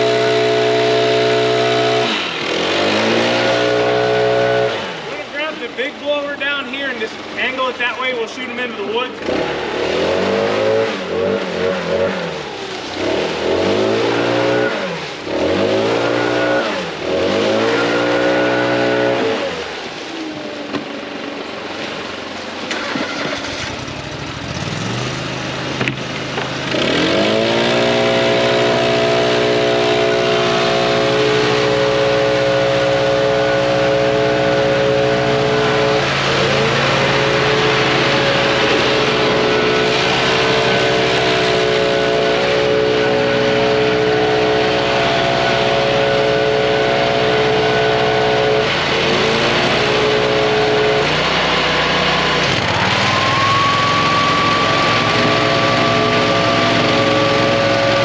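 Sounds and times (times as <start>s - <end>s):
vehicle engine accelerating: 0.0s - 58.0s.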